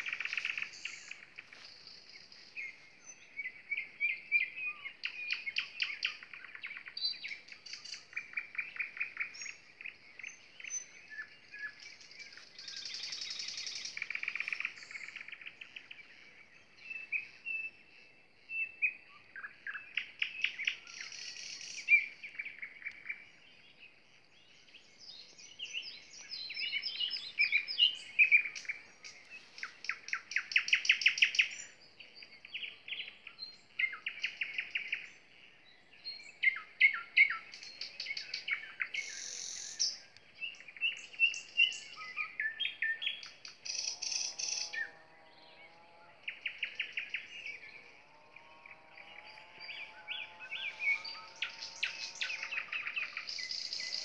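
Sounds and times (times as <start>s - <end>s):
nightingale singing: 0.0s - 45.6s, 46.2s - 54.0s.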